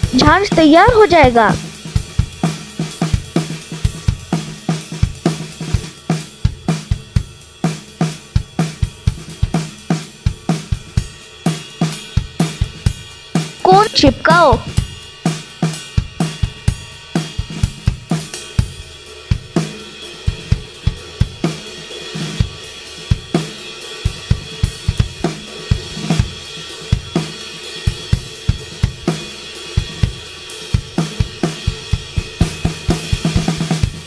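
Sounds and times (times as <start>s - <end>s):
background music with drum beat: 0.0s - 34.0s.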